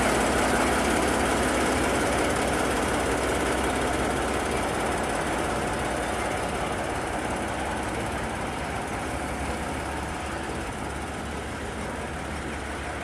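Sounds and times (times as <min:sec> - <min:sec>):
locomotive diesel engine knocking: 0:00.0 - 0:13.0.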